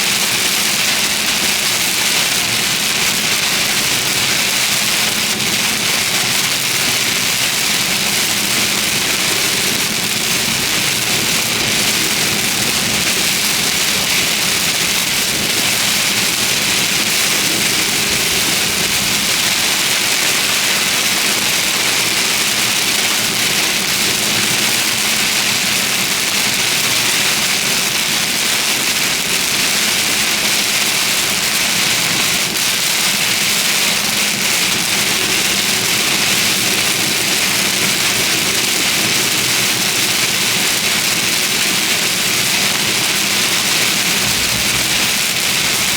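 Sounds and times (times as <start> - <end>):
heavy rain pelting a car: 0.0 - 45.9.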